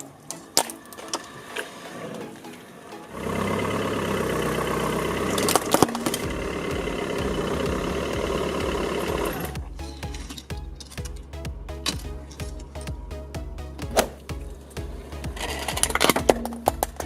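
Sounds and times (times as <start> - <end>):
car engine running: 3.1 - 17.0.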